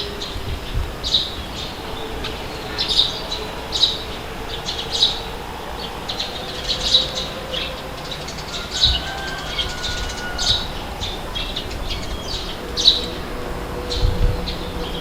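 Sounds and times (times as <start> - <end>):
birds chirping: 0.0 - 15.0
low wind rumble: 0.0 - 15.0.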